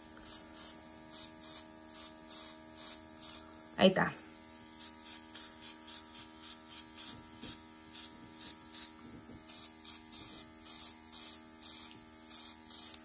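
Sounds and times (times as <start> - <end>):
airbrush spraying hissing bursts: 0.0 - 3.5, 4.6 - 13.0.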